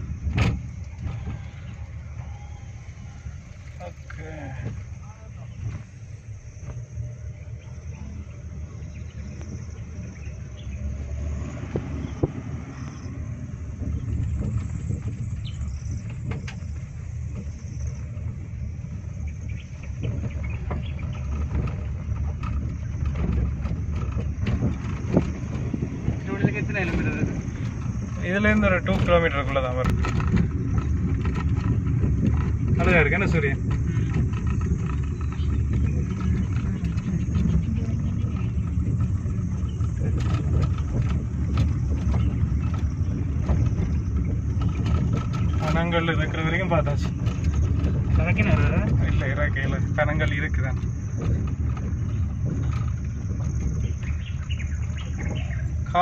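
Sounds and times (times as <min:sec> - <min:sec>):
car engine and tyres rumbling: 0:00.0 - 0:56.0
knocks and rattles: 0:00.0 - 0:56.0.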